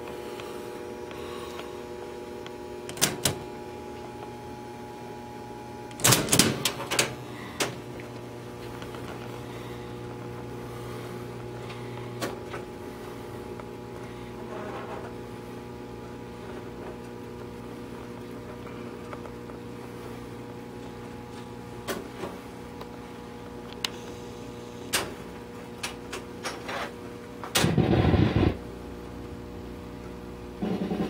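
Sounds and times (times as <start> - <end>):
jukebox motor hum: 0.0 - 31.0.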